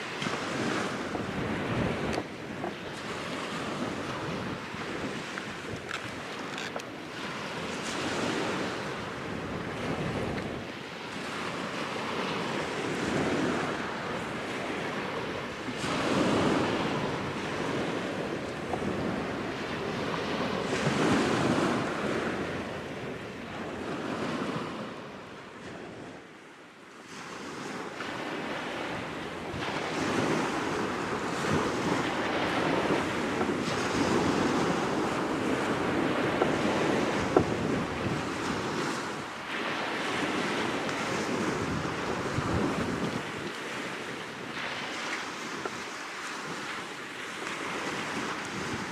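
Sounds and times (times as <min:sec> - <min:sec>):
wind buffeting microphone: 0:00.0 - 0:26.4, 0:27.1 - 0:48.9
waves washing onto shore: 0:00.0 - 0:48.9.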